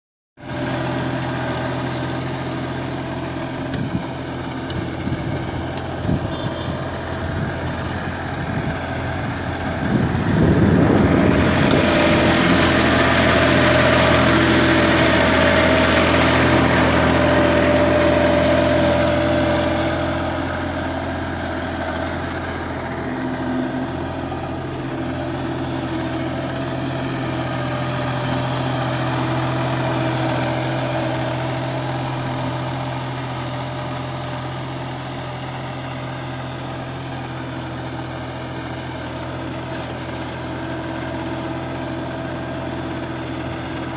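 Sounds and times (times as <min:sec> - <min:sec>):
tractor engine running: 0:00.4 - 0:43.9.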